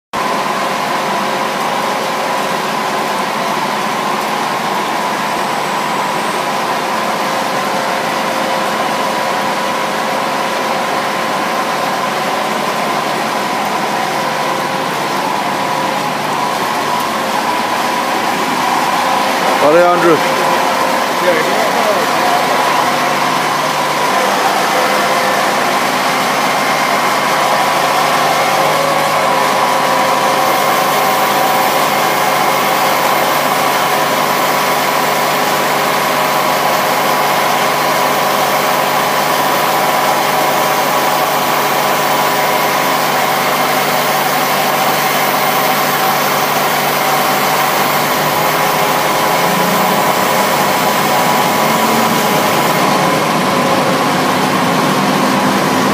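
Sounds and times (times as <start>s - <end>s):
engine droning steadily: 0.1s - 55.9s.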